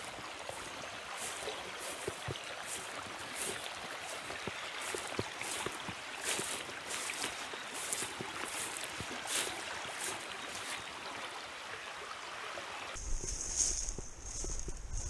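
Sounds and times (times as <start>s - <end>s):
footsteps through long grass: 0.0s - 10.9s, 13.0s - 15.0s
river rushing: 0.0s - 13.0s.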